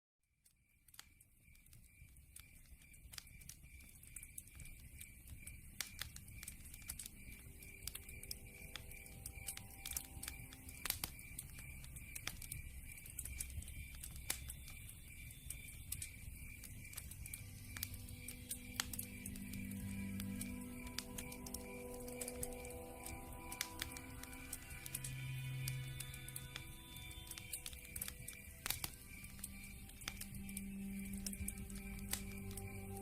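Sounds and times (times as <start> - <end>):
faint high chirp: 0.4 - 33.0
campfire crackling: 0.6 - 33.0.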